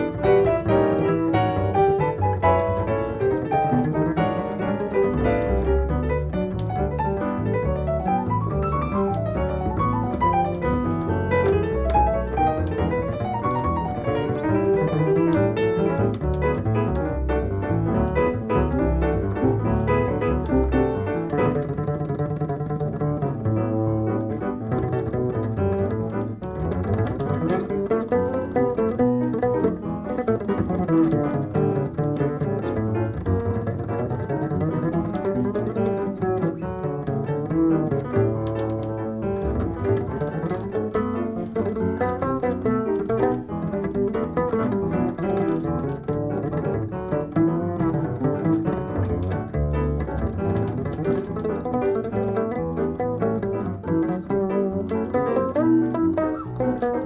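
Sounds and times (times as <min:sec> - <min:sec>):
jazz double bass: 0:00.0 - 0:57.0
piano accompaniment: 0:00.0 - 0:57.0.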